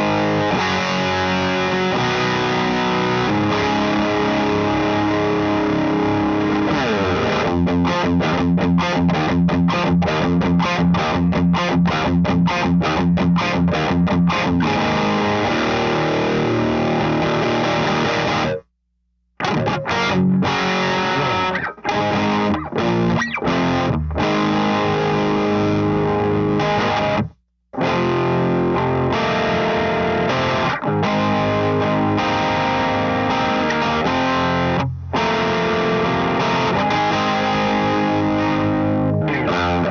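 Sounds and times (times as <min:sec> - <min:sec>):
overdriven electric guitar: 0:00.0 - 0:18.7, 0:19.4 - 0:39.9.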